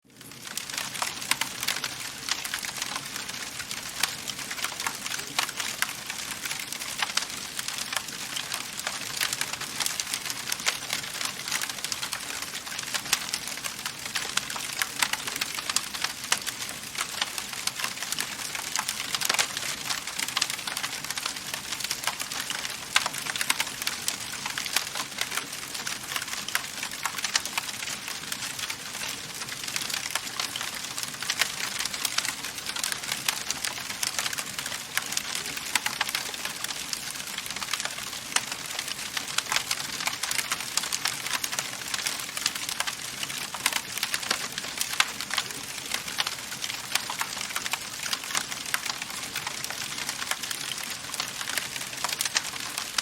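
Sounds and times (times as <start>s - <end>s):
wood fire crackling: 0.1s - 53.0s.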